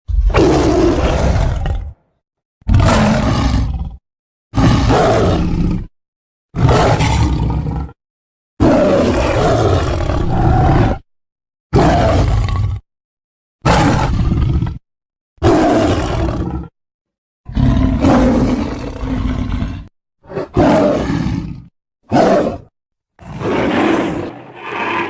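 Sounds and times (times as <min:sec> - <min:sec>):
big cat roars: 0:00.1 - 0:02.0, 0:02.7 - 0:05.9, 0:06.6 - 0:08.0, 0:08.6 - 0:11.1, 0:11.7 - 0:12.8, 0:13.6 - 0:14.8, 0:15.4 - 0:16.7, 0:17.5 - 0:25.0.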